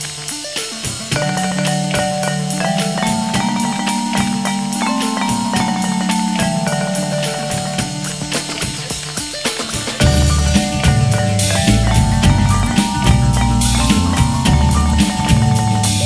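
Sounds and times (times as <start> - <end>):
held notes: 0.0 - 16.0
ticking percussion beat: 0.0 - 16.0.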